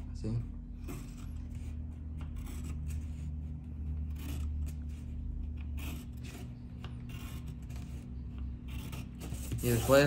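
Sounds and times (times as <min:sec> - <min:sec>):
steady low hum: 0:00.0 - 0:10.0
pencil scratching on paper: 0:00.6 - 0:10.0.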